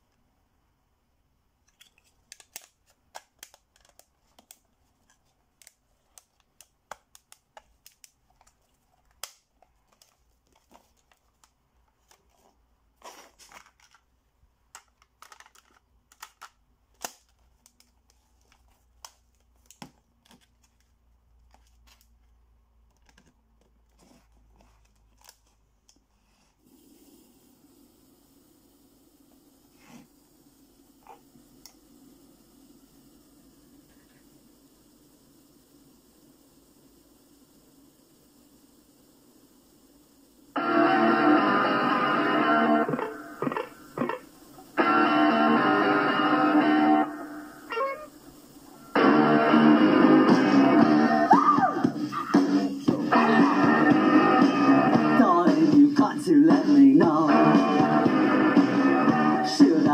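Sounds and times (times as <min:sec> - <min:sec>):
steady hiss with low hum: 0:00.0 - 0:59.9.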